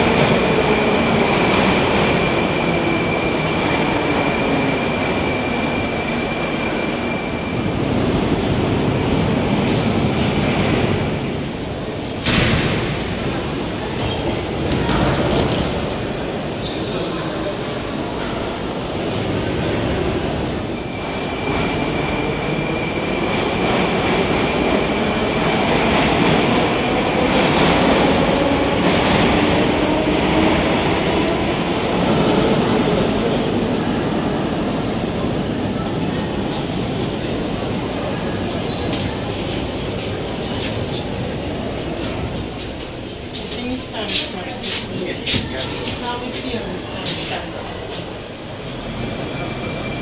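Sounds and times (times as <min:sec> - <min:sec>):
metro train rumble: 0:00.0 - 0:50.0.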